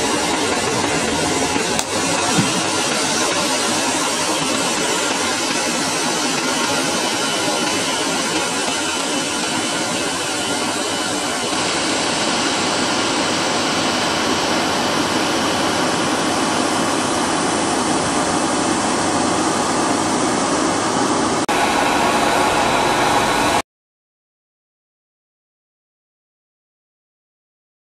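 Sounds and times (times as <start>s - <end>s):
hair dryer blowing air: 0.0s - 23.6s.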